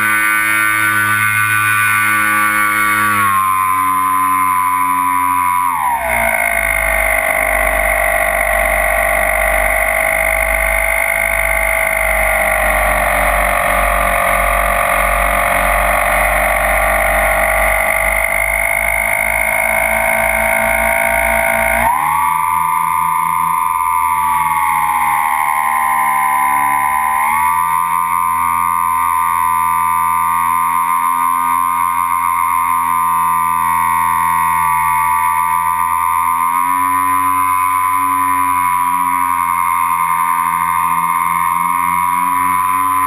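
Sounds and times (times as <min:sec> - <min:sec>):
electric motors and propellers whining: 0:00.0 - 0:43.0.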